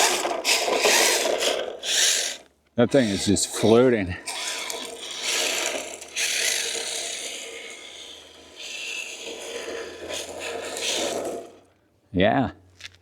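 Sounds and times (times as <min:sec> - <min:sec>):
toy car tires sliding over pebbles: 0:00.0 - 0:11.7.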